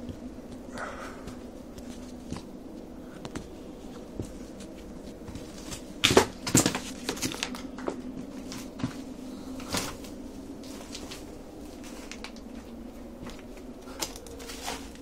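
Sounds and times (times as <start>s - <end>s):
faint steady hum: 0.0s - 15.0s
rustling through weeds and rubble: 0.0s - 15.0s.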